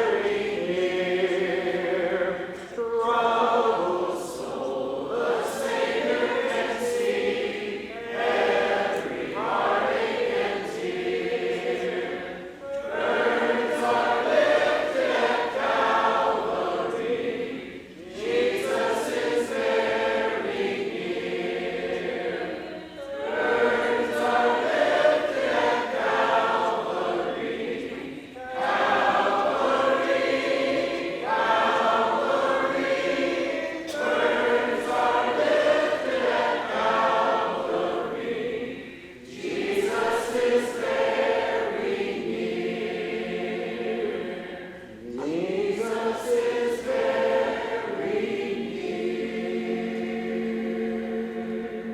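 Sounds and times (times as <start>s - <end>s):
congregation singing a hymn: 0.0s - 51.9s.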